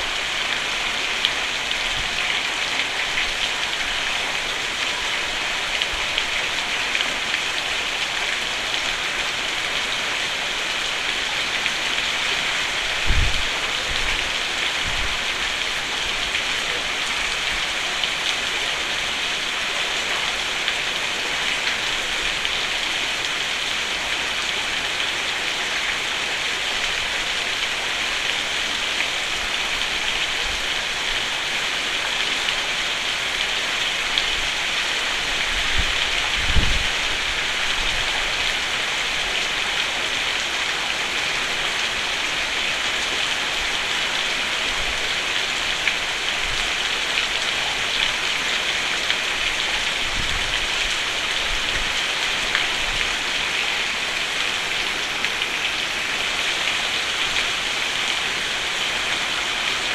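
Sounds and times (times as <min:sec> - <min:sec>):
rain on a roof: 0:00.0 - 0:59.9.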